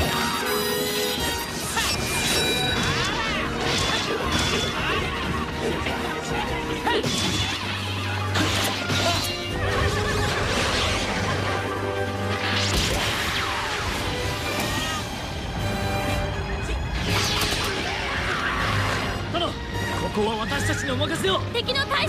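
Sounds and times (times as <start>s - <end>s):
action film music: 0.0s - 22.0s.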